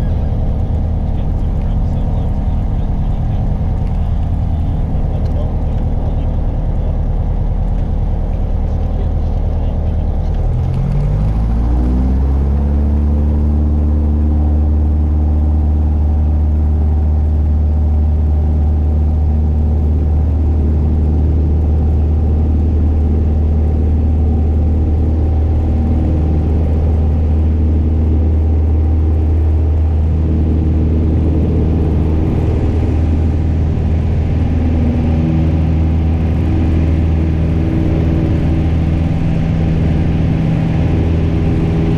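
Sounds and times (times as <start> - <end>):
propeller plane engine: 0.0 - 41.9.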